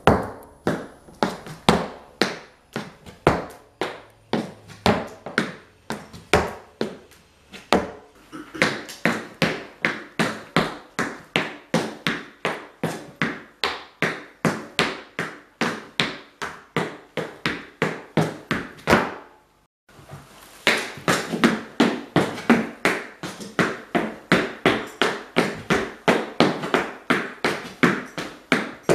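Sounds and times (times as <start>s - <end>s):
hard shoes tapping on floor: 0.0s - 19.4s, 20.0s - 28.9s.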